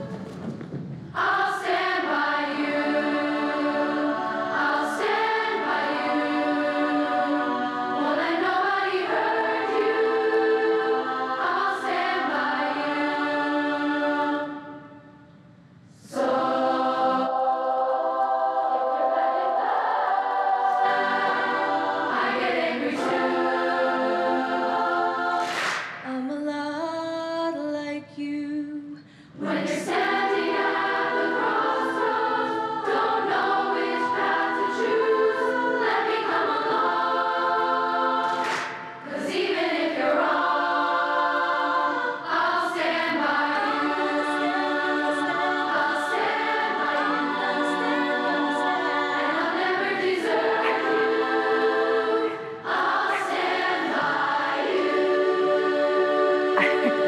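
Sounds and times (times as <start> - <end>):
choir singing sustained chords: 1.1 - 26.0, 29.3 - 57.0.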